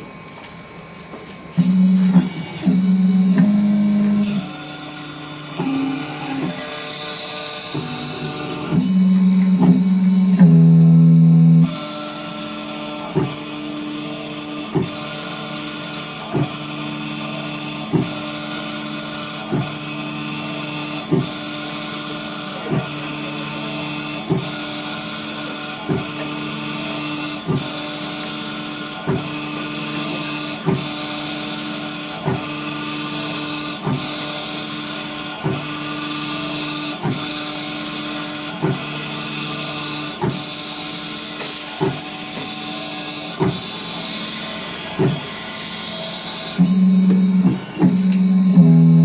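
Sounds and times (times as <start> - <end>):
engraving machine grinding: 1.6 - 49.0.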